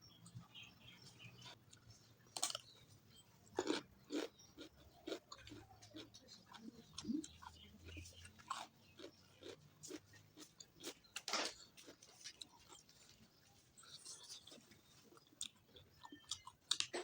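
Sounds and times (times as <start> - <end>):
person chewing and crunching food: 0.2 - 17.0.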